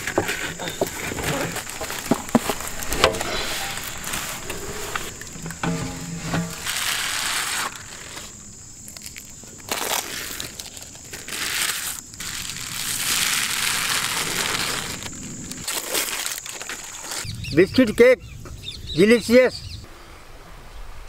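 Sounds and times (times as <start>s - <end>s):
foil crinkling: 0.0s - 17.3s.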